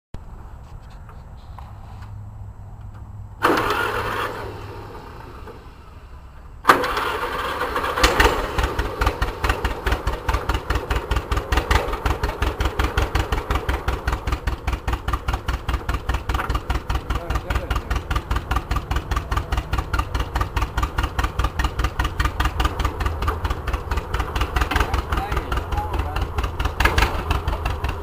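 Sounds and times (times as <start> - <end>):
tractor engine idling: 0.2 - 28.0
engine cranking: 3.4 - 28.0.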